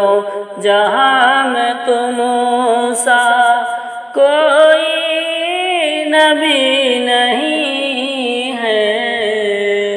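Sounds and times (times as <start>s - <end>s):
person singing devotional song: 0.0s - 9.9s.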